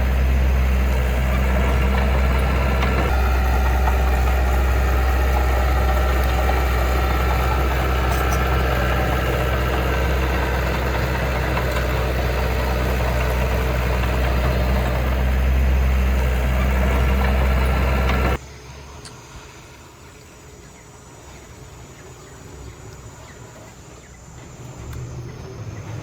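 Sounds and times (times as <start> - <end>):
heavy diesel engine humming: 0.0 - 26.0.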